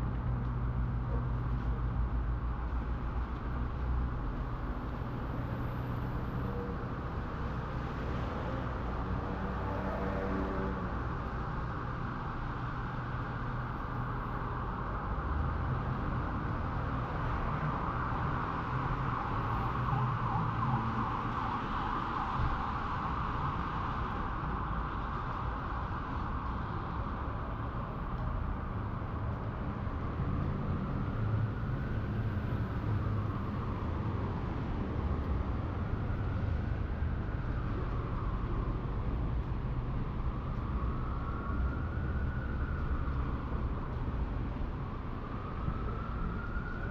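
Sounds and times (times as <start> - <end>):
passing traffic rumble: 0.0 - 46.9.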